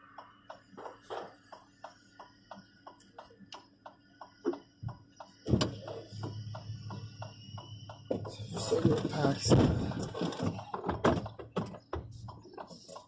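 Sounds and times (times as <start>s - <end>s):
turn signal ticking: 0.0s - 13.0s.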